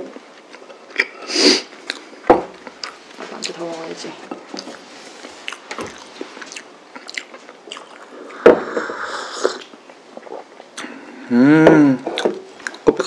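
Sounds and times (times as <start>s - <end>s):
person chewing: 0.1s - 3.6s, 4.3s - 11.3s, 12.0s - 13.0s.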